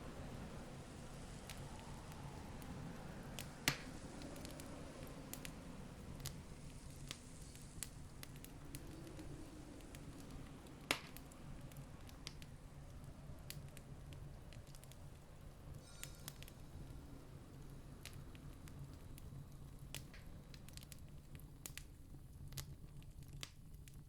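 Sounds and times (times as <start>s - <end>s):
campfire crackling: 0.0s - 24.0s
fire popping and snapping: 0.0s - 24.0s
low steady rumble: 0.0s - 24.0s.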